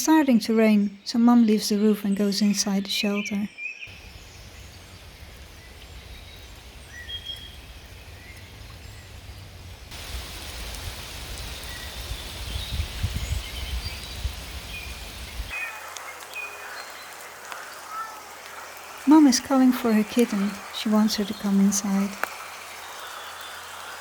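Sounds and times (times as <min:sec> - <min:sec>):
rain falling in woodland: 0:00.0 - 0:24.0
bird chirps: 0:02.4 - 0:09.4, 0:11.4 - 0:24.0.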